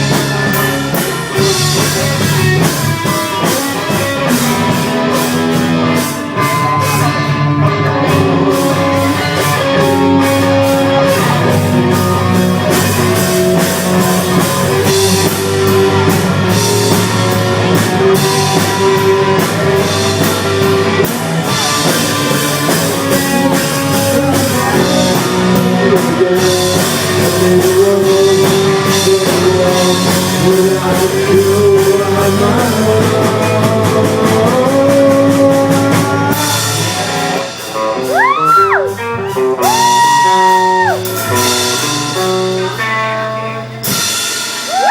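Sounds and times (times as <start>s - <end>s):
drum kit steady beat: 0.0s - 44.9s
electric guitar: 0.0s - 44.9s.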